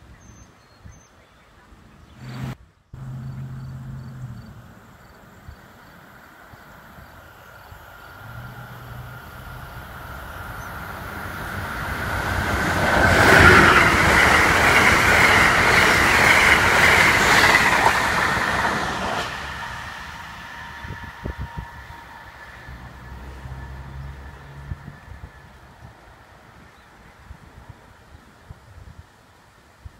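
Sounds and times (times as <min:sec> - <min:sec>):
passenger train passing: 0:03.0 - 0:28.0.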